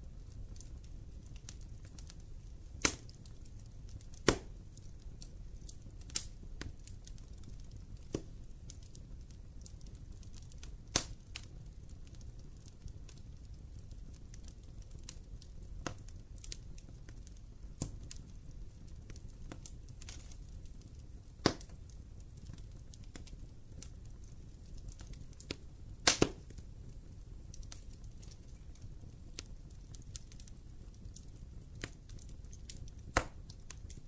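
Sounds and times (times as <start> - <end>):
wood fire crackling: 0.0 - 34.0
loud fire pops: 0.1 - 34.0.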